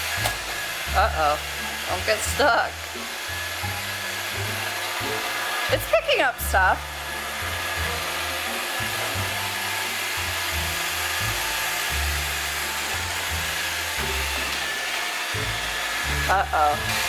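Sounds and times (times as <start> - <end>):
background music with bass: 0.0 - 17.0
robot vacuum whirring: 0.0 - 17.0.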